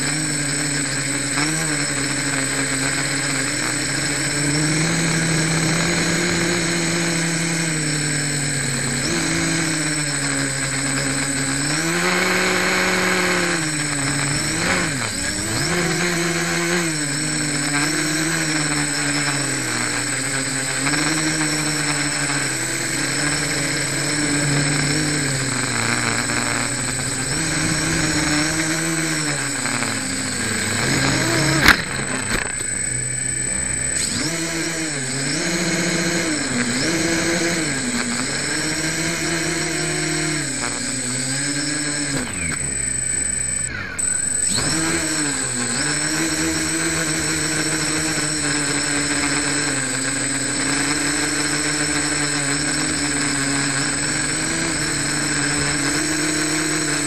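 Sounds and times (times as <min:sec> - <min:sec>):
quadcopter propellers buzzing: 0:00.0 - 0:57.0
steady high whine: 0:00.0 - 0:57.0.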